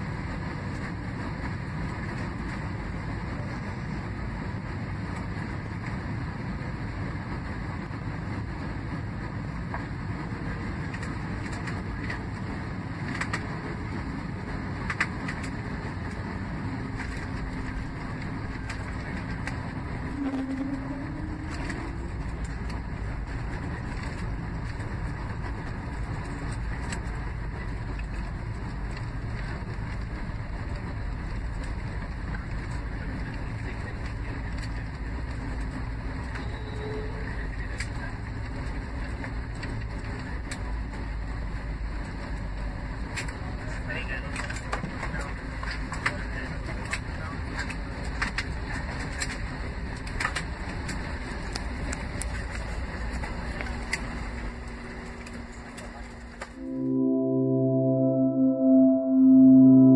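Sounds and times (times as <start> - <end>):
airliner engine and airflow rumble: 0.0 - 59.9.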